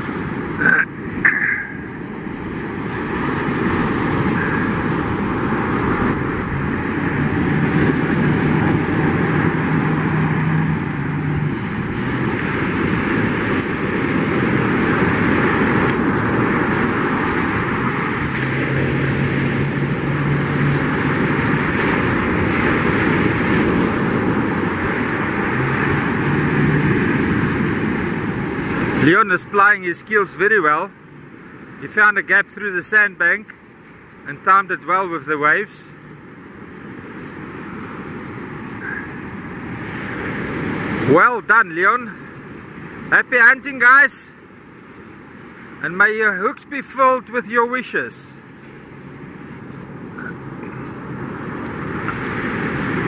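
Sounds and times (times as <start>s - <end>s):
boat outboard motors humming: 0.0s - 53.0s
surf rushing: 0.0s - 53.0s
wind: 0.0s - 53.0s.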